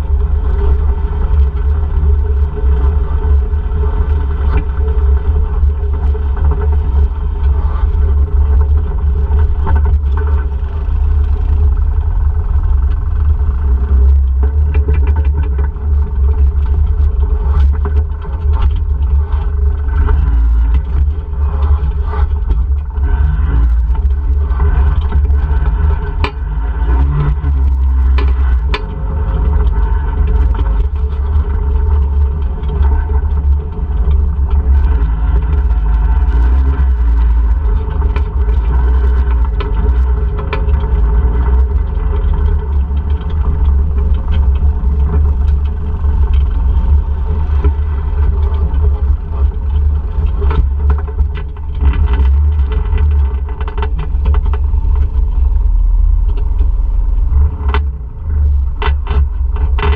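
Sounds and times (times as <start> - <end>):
atv engine rumbling: 0.0 - 59.9.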